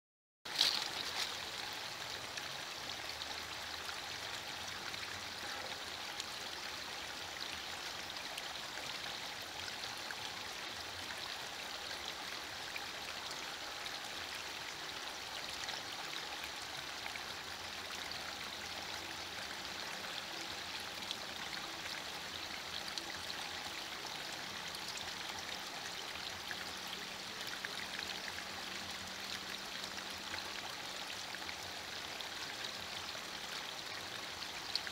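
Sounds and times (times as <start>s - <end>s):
light rain falling: 0.5s - 34.9s.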